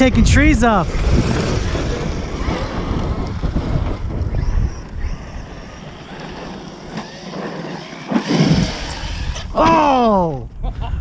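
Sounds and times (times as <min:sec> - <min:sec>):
wind rumbling on microphone: 0:00.0 - 0:11.0
electric rc truck running: 0:00.8 - 0:10.1.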